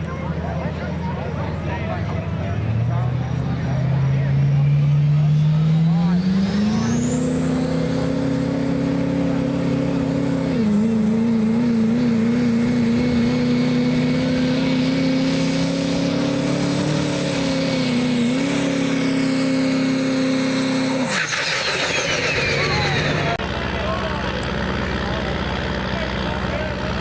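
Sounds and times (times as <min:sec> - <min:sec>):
diesel truck engine high revs: 0:00.0 - 0:27.0.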